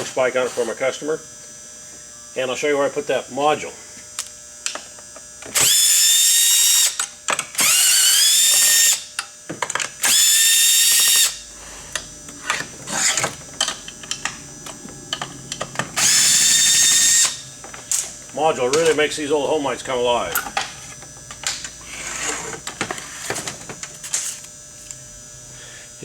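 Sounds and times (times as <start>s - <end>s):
power driver whine: 0.0s - 26.0s.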